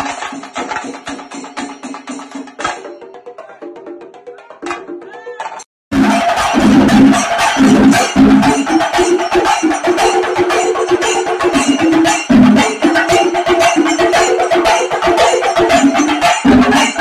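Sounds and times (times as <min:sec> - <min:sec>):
drums played with sticks: 0:00.0 - 0:17.0.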